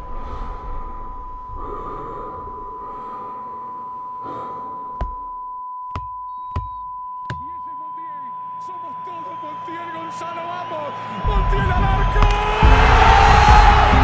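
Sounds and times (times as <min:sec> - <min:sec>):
steady high-pitched tone: 0:00.0 - 0:12.2.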